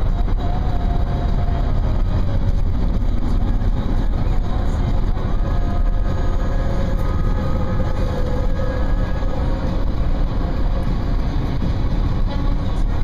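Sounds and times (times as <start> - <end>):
car road noise from inside cabin: 0.0 - 13.0.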